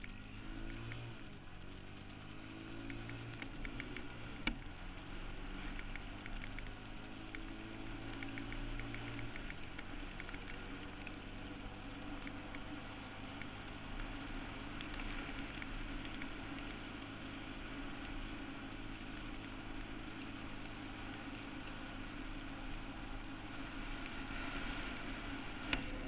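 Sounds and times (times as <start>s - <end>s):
light ticks: 0.0s - 24.8s, 25.6s - 26.0s
atv engine running: 0.0s - 26.0s.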